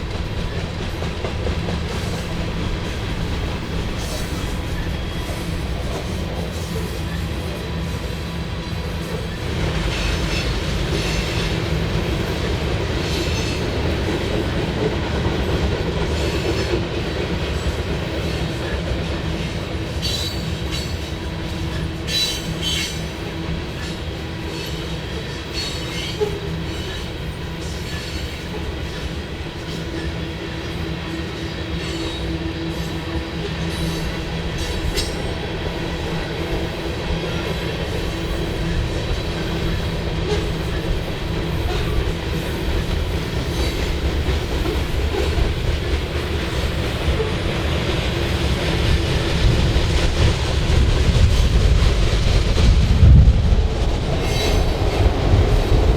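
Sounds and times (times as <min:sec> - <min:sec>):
freight train rumbling: 0:00.0 - 0:55.9.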